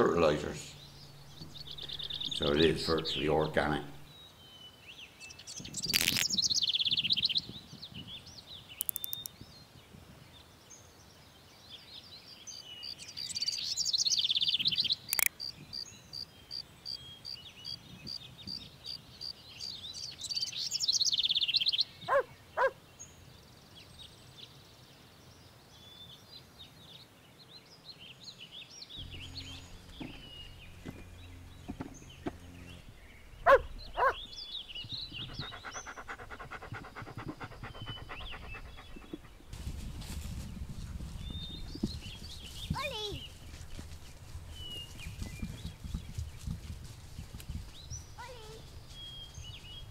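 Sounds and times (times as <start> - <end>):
songbirds singing: 0.0 - 49.9.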